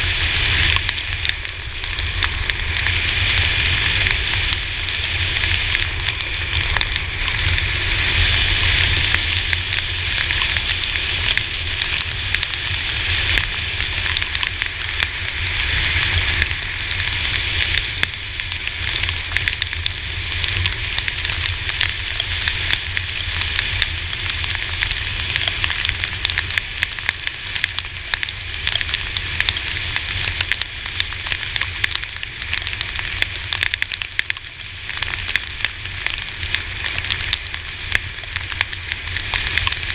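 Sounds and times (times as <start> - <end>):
rain striking camera: 0.0 - 39.9
scooter riding on wet road: 0.0 - 39.9
wind rumble: 0.0 - 39.9.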